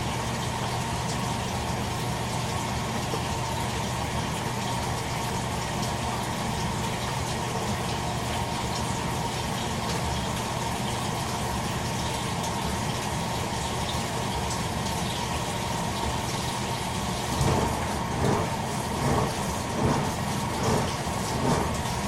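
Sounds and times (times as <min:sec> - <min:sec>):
washing machine surges: 0:00.0 - 0:22.0
water filling washing machine tub: 0:00.0 - 0:22.0.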